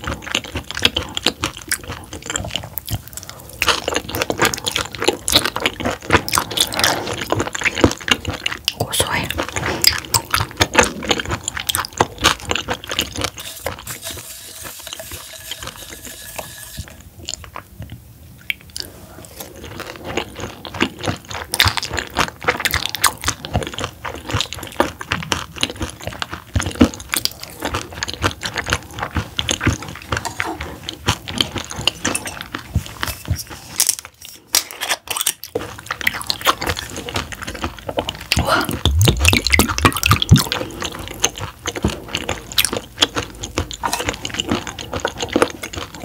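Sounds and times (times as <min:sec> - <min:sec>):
wet chewing and crunching: 0:00.0 - 0:46.0.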